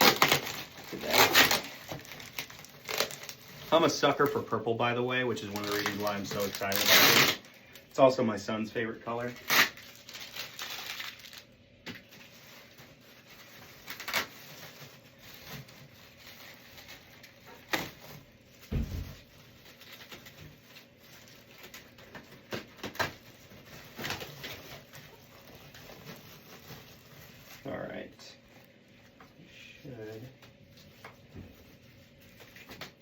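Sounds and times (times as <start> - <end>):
packaging rustling: 0.0 - 7.8, 9.1 - 28.0.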